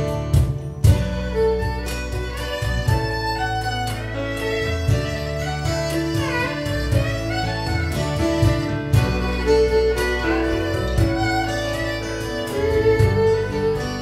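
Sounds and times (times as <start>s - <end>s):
bass line: 0.0s - 14.0s
guitar: 0.0s - 14.0s
light percussion: 0.0s - 14.0s
viola bowed melody: 0.0s - 14.0s.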